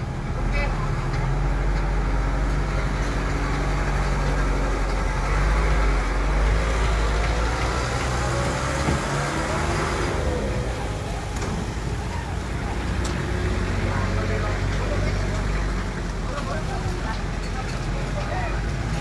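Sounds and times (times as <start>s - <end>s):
large vehicle engine humming: 0.0s - 19.0s.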